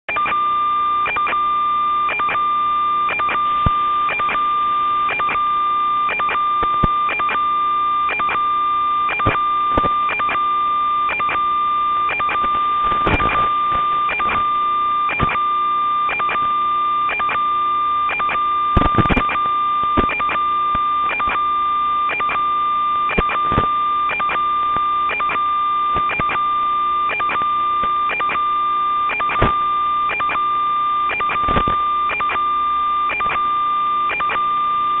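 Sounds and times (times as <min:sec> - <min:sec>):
electronic crackle: 0:00.1 - 0:35.0
steady high electronic whine: 0:00.1 - 0:35.0
evenly spaced electronic clicks: 0:01.0 - 0:01.4, 0:02.0 - 0:02.4, 0:03.0 - 0:10.5, 0:11.1 - 0:16.5, 0:17.1 - 0:21.4, 0:22.0 - 0:26.5, 0:27.1 - 0:32.5, 0:33.1 - 0:33.5, 0:34.1 - 0:34.4.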